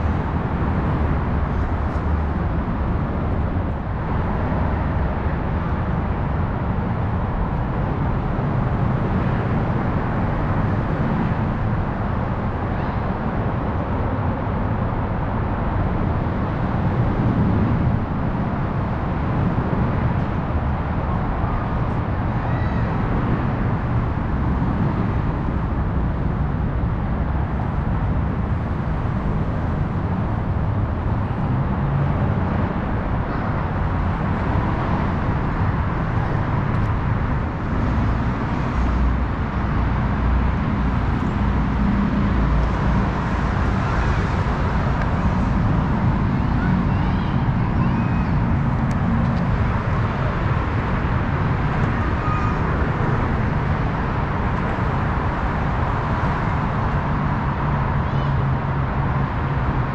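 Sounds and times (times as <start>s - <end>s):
freeway traffic rumble: 0.0s - 59.9s.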